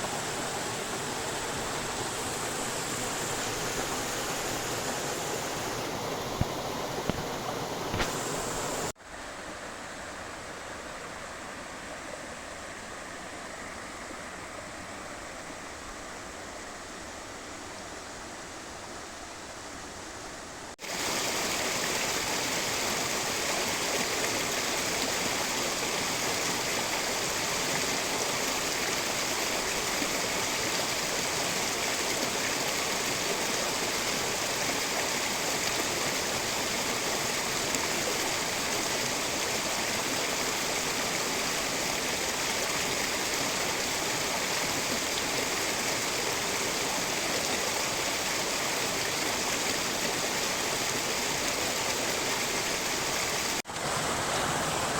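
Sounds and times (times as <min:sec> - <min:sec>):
fast-flowing stream water rushing: 0:00.0 - 0:10.4, 0:20.8 - 0:54.9.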